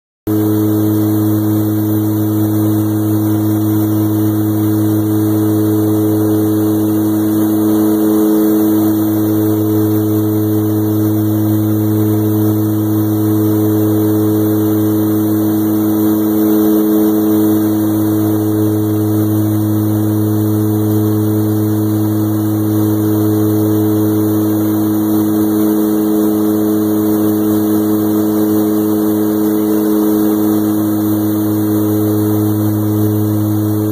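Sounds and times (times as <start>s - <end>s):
aircraft engine droning: 0.3s - 33.9s.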